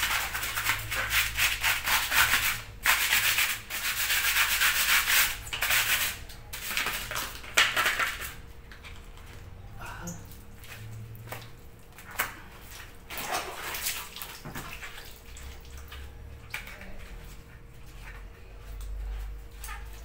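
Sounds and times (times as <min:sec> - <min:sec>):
scrubbing plastic on wet concrete: 0:00.0 - 0:09.5, 0:10.1 - 0:20.0.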